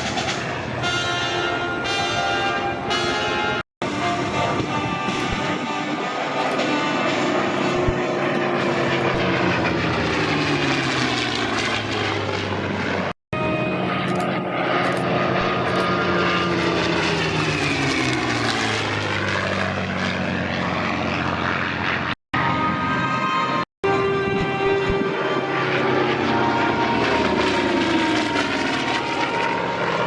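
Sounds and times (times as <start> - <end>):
propeller plane flying past: 0.0 - 30.0.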